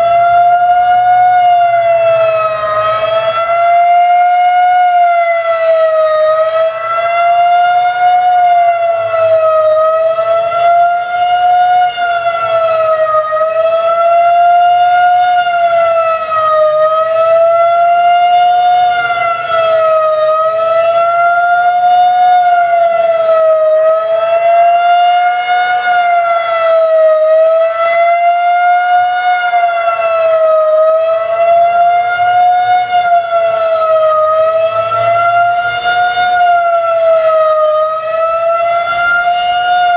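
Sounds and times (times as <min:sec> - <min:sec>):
civil defense siren wailing: 0:00.0 - 0:39.9.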